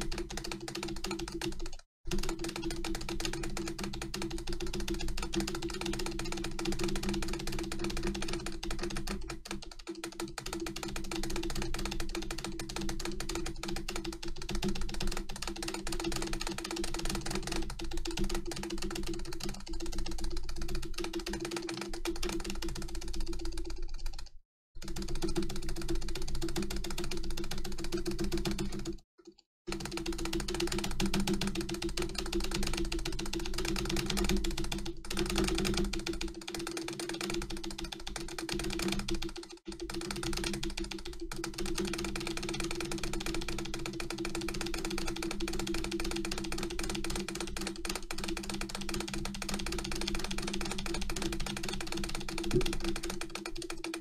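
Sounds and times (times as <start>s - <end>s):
rapid keyboard spacebar tapping: 0.0s - 29.0s, 29.7s - 54.0s.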